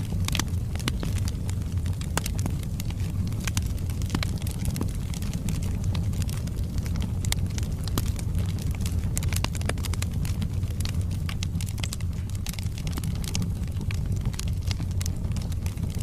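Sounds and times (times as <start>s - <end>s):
fire rumbling: 0.0s - 16.0s
wood crackling and popping: 0.0s - 16.0s.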